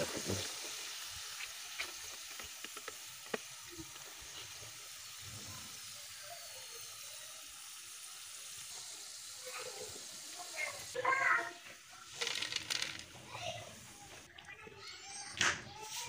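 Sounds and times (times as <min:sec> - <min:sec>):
fries sizzling in hot oil: 0:00.0 - 0:16.0.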